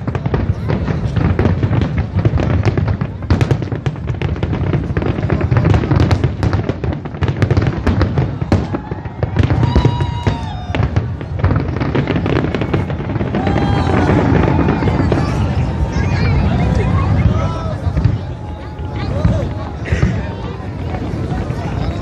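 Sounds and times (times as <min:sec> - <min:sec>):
fireworks crackling bangs: 0:00.0 - 0:22.0.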